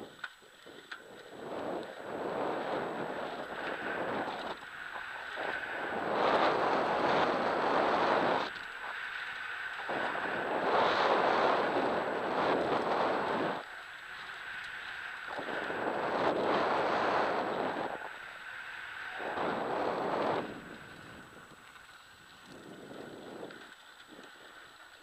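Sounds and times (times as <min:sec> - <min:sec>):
wind buffeting microphone: 0:00.0 - 0:14.2, 0:14.8 - 0:24.8.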